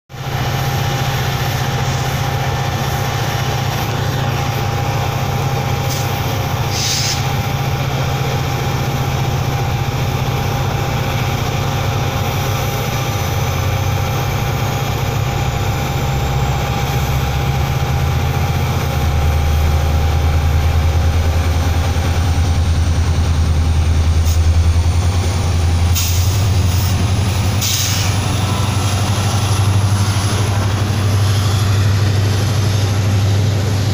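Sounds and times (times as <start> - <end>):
diesel locomotive engine hum: 0.1 - 33.9.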